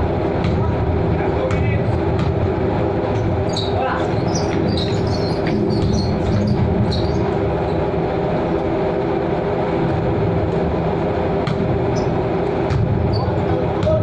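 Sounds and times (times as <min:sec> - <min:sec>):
steady mechanical engine drone: 0:00.0 - 0:14.0.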